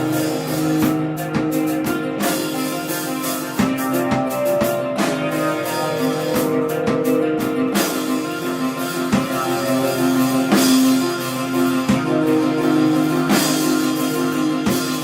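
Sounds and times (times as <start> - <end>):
droning guitar notes: 0.0 - 15.0
drum strikes: 0.0 - 15.0.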